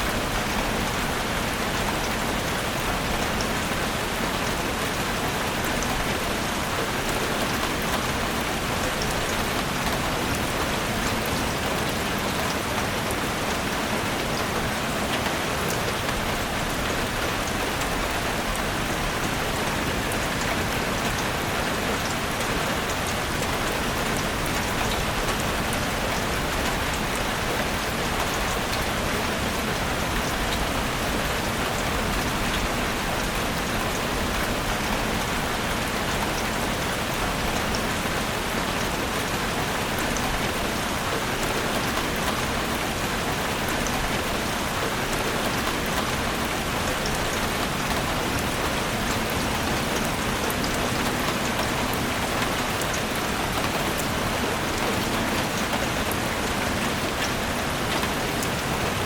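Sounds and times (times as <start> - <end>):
steady rain in forest: 0.0 - 59.0.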